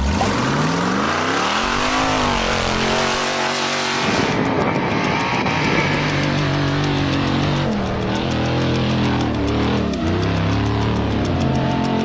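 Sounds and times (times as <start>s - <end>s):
electric guitar music: 0.0s - 12.0s
motorcycle engine revving: 0.0s - 12.0s.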